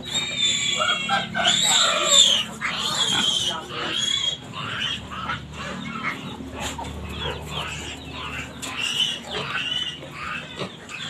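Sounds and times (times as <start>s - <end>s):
piglets squealing: 0.0s - 11.0s.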